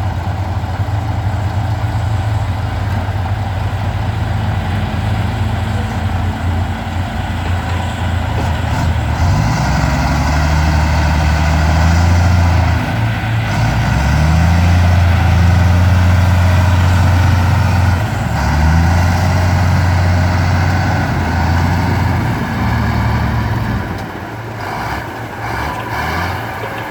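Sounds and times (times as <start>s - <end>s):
bulldozer diesel engine under load: 0.0s - 26.9s.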